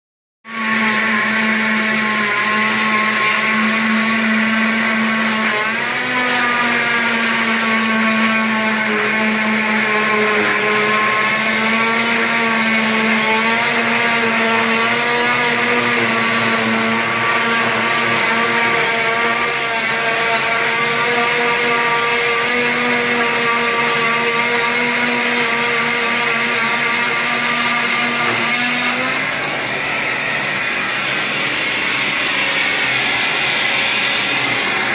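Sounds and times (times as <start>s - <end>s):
cast saw motor whine: 0.5s - 34.9s.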